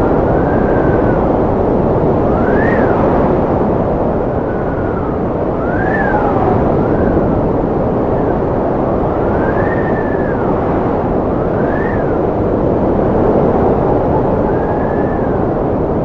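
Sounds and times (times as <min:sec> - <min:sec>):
strong wind roaring: 0:00.0 - 0:16.0
wind whistle: 0:00.0 - 0:16.0.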